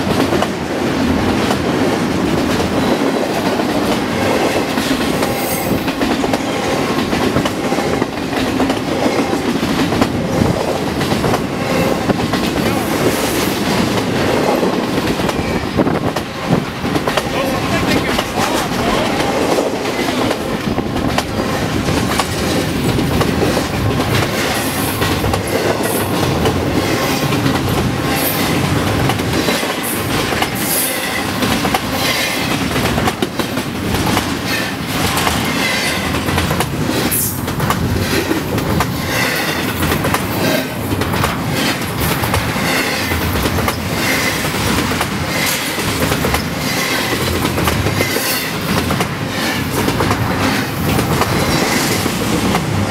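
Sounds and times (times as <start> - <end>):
train wheels rumbling on rail: 0.0 - 52.9
wheels clacking over rail joints: 0.0 - 52.9.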